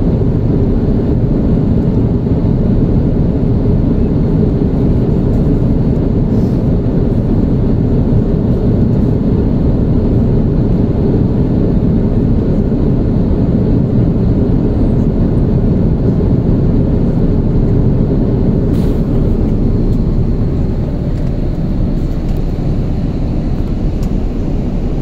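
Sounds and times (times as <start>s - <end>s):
jet airliner cabin noise: 0.0s - 25.0s.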